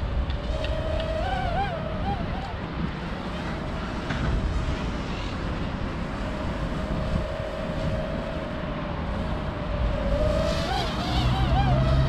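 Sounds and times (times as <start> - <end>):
drone propellers whining: 0.0 - 12.0
wind rumble on microphone: 0.0 - 12.0.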